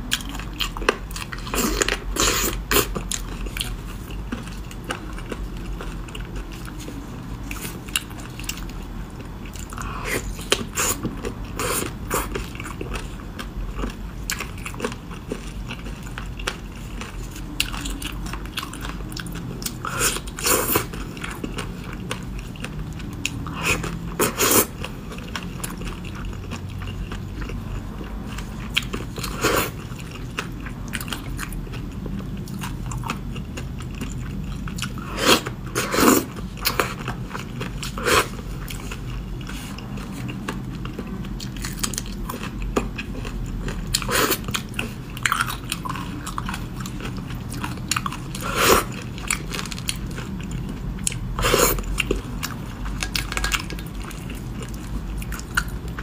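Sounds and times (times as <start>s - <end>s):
low steady hum: 0.0s - 56.0s
person chewing: 0.0s - 56.0s.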